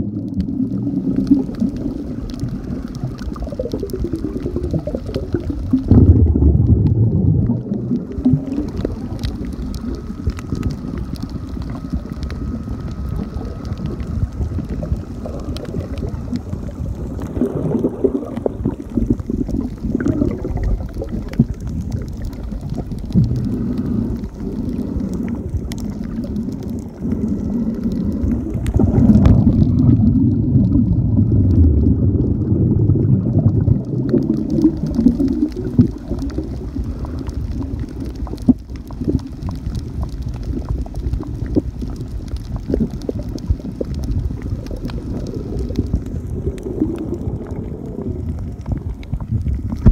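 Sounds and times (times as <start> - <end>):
underwater rumbling and gurgling: 0.0 - 49.9.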